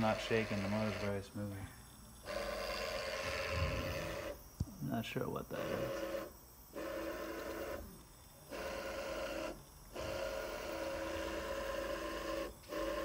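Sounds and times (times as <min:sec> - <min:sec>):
servo motor whine: 0:00.0 - 0:01.2, 0:02.2 - 0:04.4, 0:05.5 - 0:13.0.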